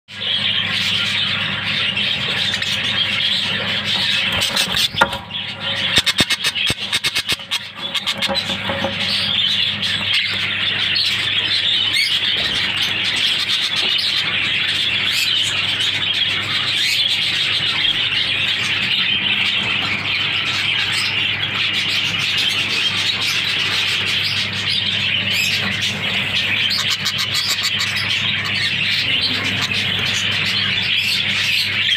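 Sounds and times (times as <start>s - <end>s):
budgerigars chattering and warbling: 0.1s - 31.9s
steady low hum: 0.1s - 31.9s.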